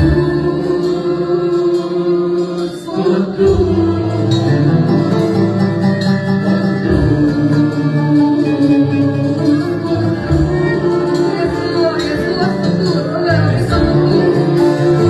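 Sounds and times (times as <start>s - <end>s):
instrumental worship music with guitar: 0.0s - 15.0s.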